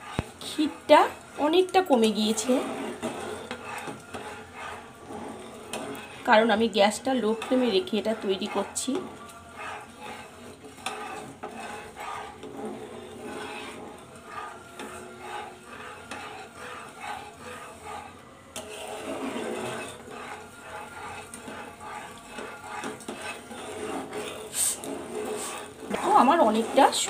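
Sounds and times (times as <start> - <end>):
spatula scraping a frying pan: 0.0 - 27.0.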